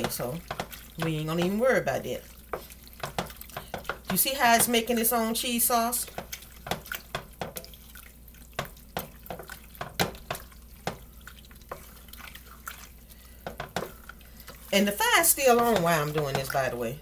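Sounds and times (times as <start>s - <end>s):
spoon stirring noodles in cheese sauce: 0.0s - 17.0s.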